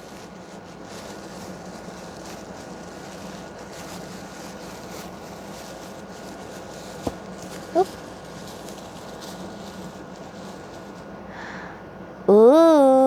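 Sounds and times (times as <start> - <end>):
room background hiss: 0.0 - 13.0.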